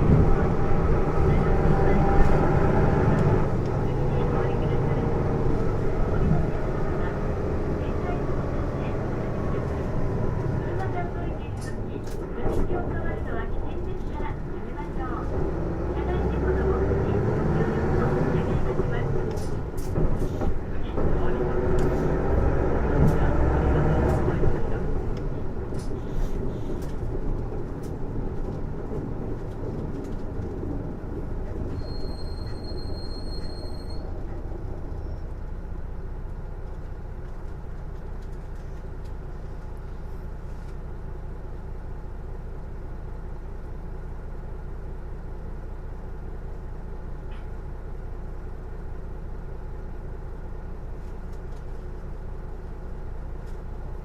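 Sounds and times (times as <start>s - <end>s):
bus drivetrain whine: 0.0s - 54.0s
bus engine low rumble: 0.0s - 54.0s.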